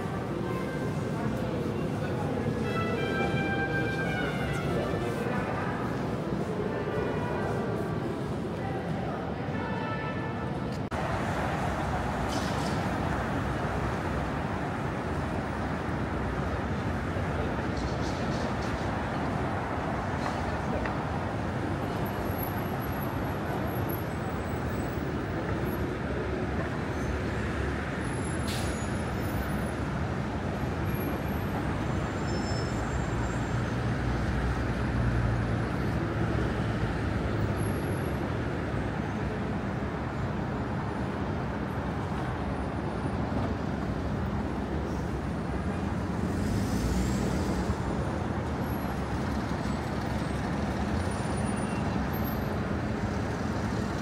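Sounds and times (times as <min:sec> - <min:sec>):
buses and cars passing: 0:00.0 - 0:54.0.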